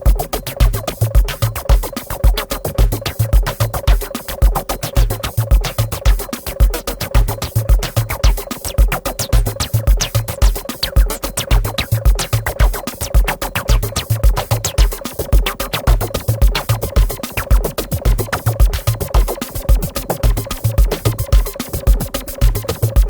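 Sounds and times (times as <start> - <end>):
electronic music with steady beat: 0.0 - 23.0.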